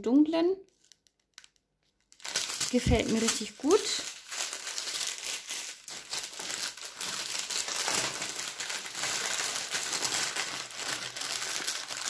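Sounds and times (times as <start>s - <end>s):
plastic bags crinkling: 0.8s - 12.0s.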